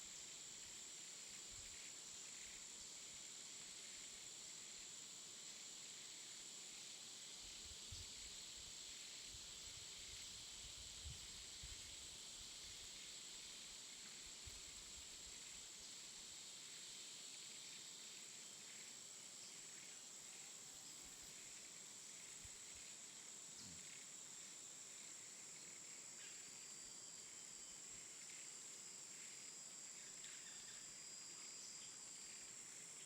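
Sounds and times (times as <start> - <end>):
faint high-pitched hiss: 0.0 - 33.0.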